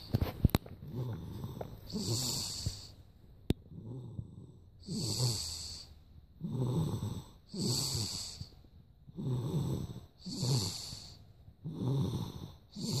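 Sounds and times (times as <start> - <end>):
heavy rasping snoring: 0.8 - 3.0, 3.6 - 13.0.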